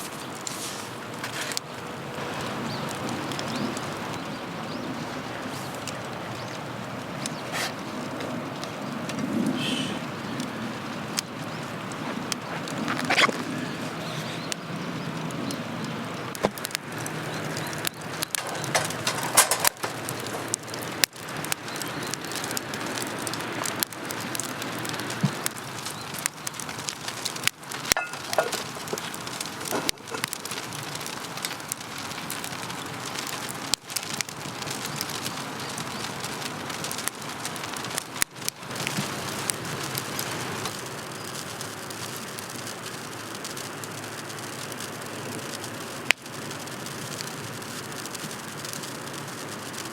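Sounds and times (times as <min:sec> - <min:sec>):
rain pattering: 0:00.0 - 0:49.9
sharp pops and ticks: 0:00.0 - 0:49.9.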